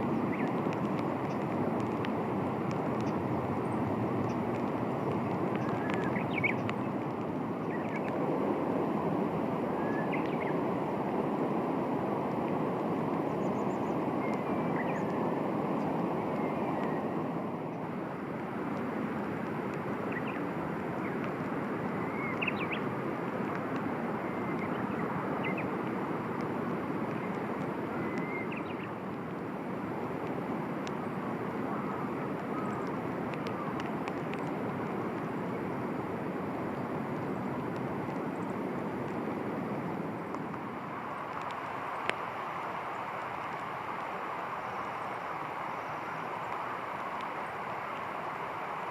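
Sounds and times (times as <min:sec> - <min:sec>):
steady rushing noise: 0:00.0 - 0:31.6, 0:32.3 - 0:48.9.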